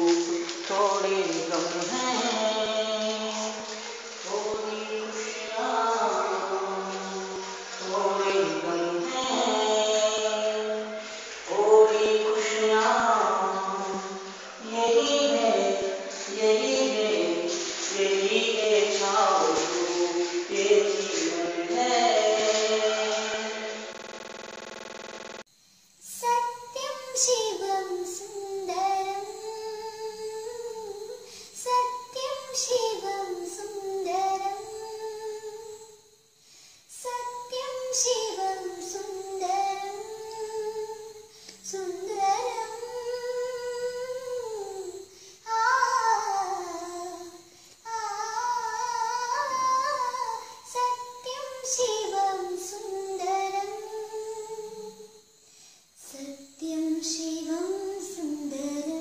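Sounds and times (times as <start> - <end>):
girl singing: 0.0 - 23.9, 26.0 - 36.1, 36.9 - 59.0.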